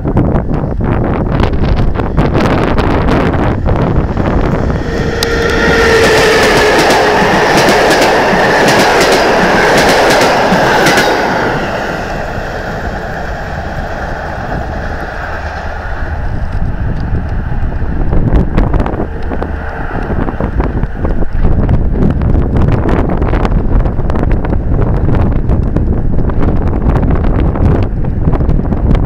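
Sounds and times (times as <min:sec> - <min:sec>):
train passing with rushing rumble: 0:00.0 - 0:29.0.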